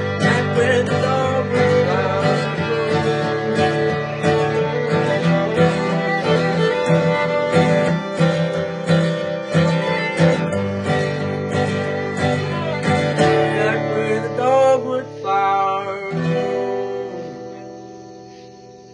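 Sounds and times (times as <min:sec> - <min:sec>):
fiddle playing: 0:00.0 - 0:17.8
acoustic guitar strumming: 0:00.0 - 0:18.9.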